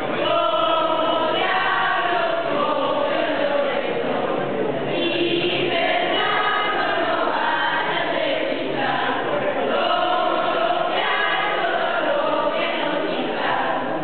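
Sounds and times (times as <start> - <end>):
choir singing a carol: 0.0 - 14.0.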